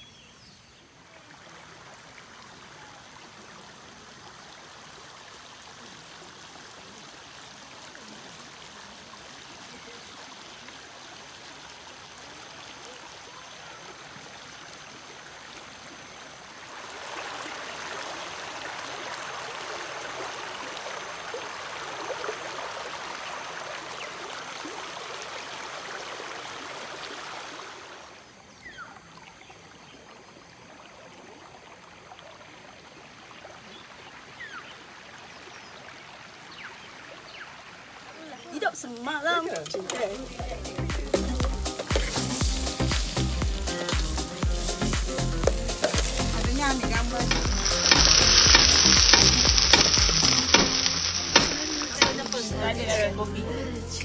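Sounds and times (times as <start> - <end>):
stream water rushing: 0.8 - 54.0.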